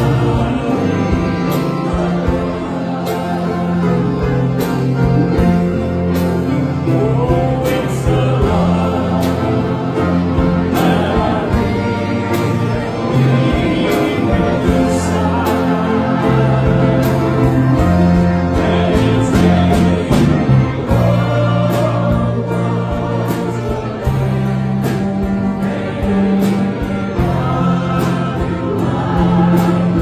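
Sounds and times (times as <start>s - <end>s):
gospel band music: 0.0s - 30.0s.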